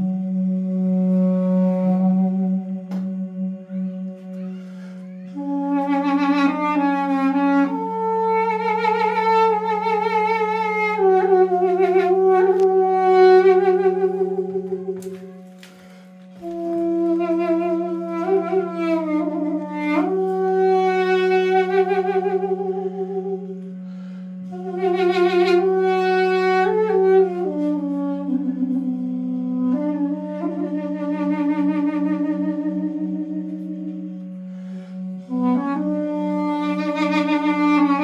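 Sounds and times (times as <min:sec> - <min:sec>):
duduk playing slow melody: 0:00.0 - 0:38.0
steady low drone: 0:00.0 - 0:38.0.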